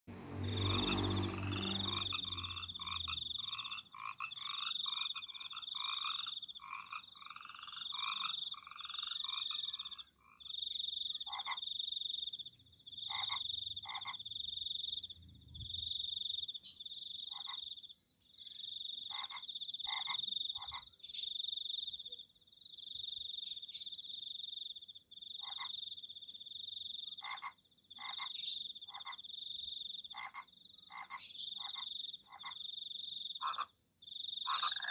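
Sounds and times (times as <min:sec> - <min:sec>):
pulsed frog calls: 0:00.3 - 0:15.1, 0:15.7 - 0:17.9, 0:18.8 - 0:21.2, 0:25.3 - 0:26.0, 0:26.7 - 0:34.9
frog trilling call: 0:00.4 - 0:12.3, 0:12.9 - 0:15.0, 0:15.9 - 0:17.8, 0:18.9 - 0:22.2, 0:25.4 - 0:34.9
low frog croaks: 0:00.4 - 0:34.9.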